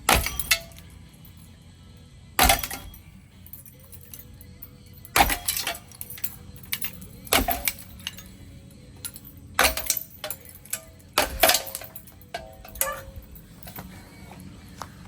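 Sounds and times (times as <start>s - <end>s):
metal parts clanking: 0.0s - 1.0s, 2.4s - 14.1s.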